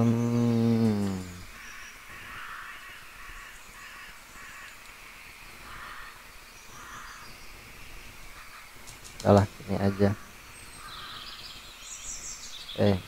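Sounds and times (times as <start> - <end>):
faint harsh bird calls: 0.5 - 13.0.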